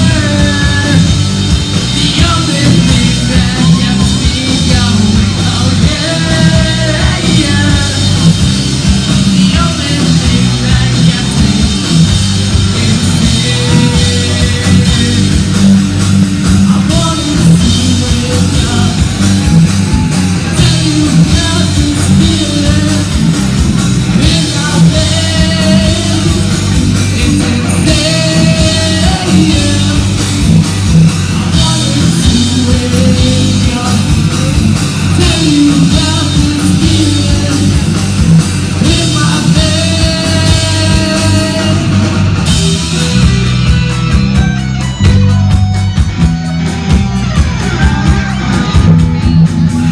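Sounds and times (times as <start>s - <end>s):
person singing: 0.0s - 43.4s
bass guitar: 0.0s - 49.9s
distorted electric guitars: 0.0s - 49.9s
drum kit: 0.0s - 49.9s.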